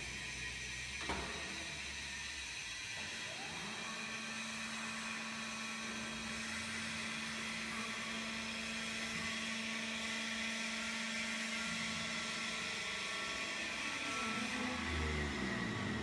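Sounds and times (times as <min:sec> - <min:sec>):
hydraulic pump motor whirring: 0:00.0 - 0:16.0.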